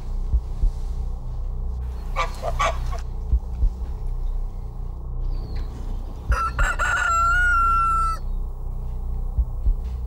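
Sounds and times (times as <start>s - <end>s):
low drone: 0.0s - 10.0s.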